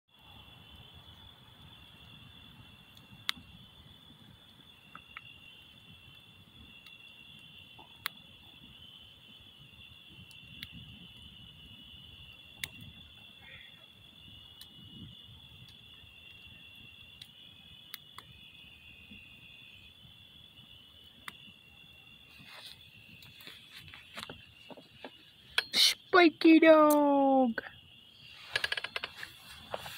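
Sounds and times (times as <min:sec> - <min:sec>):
insects trilling: 0:00.1 - 0:29.9
wood fire crackling and popping: 0:00.5 - 0:26.2, 0:26.8 - 0:29.9.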